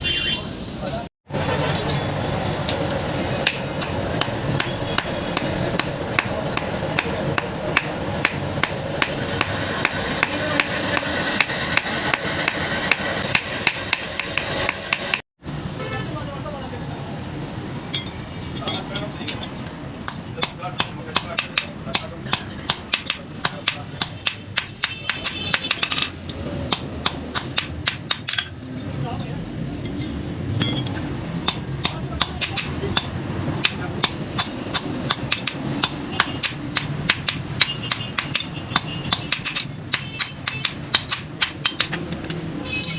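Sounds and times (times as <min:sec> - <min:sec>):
rushing background noise: 0:00.0 - 0:42.9
hammer striking iron: 0:03.4 - 0:15.2, 0:17.9 - 0:28.9, 0:29.8 - 0:42.9.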